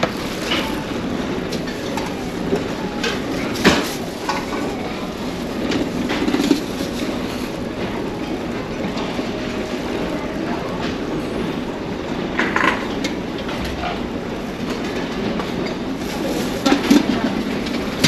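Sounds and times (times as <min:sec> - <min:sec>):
low rumble of a ferry: 0:00.0 - 0:18.0.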